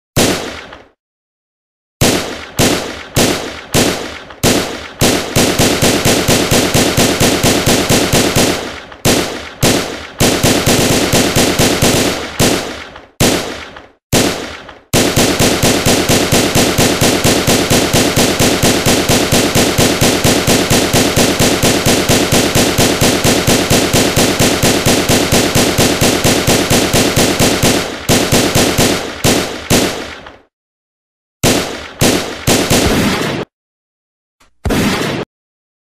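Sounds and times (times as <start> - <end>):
single gunshots: 0.2 - 1.0, 2.0 - 30.5, 31.4 - 33.5, 34.6 - 35.3
automatic gunfire bursts: 2.0 - 30.2, 31.4 - 33.5.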